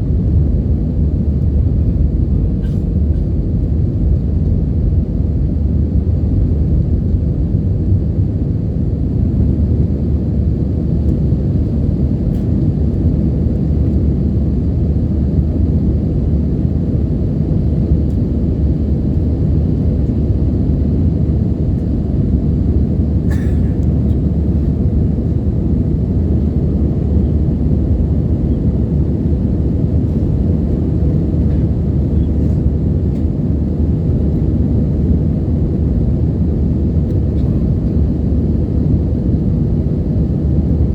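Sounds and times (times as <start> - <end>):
airliner engine and airflow rumble: 0.0 - 40.9.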